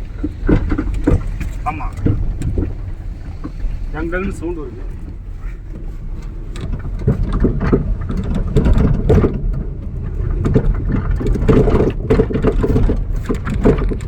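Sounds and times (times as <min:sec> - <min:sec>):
dull suspension thuds: 0:00.0 - 0:14.0
road and engine rumble: 0:00.0 - 0:14.0.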